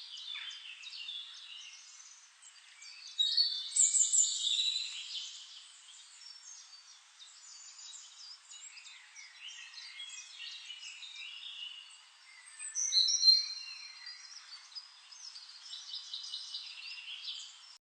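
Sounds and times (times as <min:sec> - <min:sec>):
small birds chirping: 0:00.0 - 0:17.8
whistled bird notes: 0:00.1 - 0:17.8.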